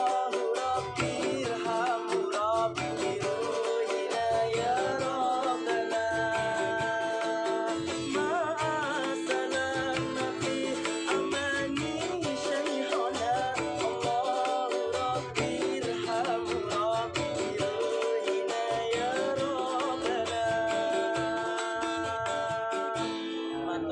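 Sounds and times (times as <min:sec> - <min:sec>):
person singing ornamented melody: 0:00.0 - 0:23.9
plucked strings: 0:00.0 - 0:23.9.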